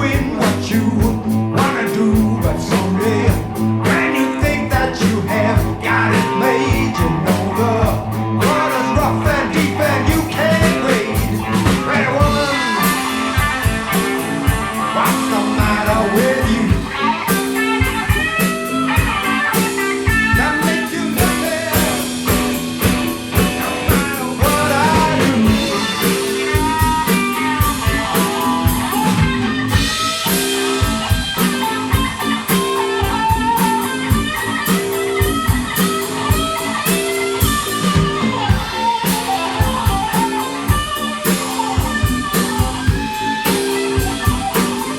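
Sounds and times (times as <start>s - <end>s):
bass: 0.0s - 44.9s
drum kit beat: 0.0s - 44.9s
electric guitar lead lines: 0.0s - 44.9s.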